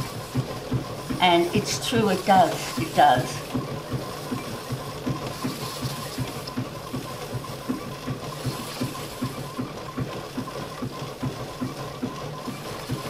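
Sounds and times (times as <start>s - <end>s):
pianola roll rewinding: 0.0s - 13.0s.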